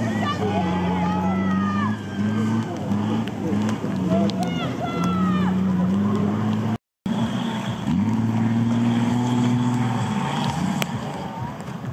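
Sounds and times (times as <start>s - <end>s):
off-road vehicle engine running hard: 0.0s - 11.9s.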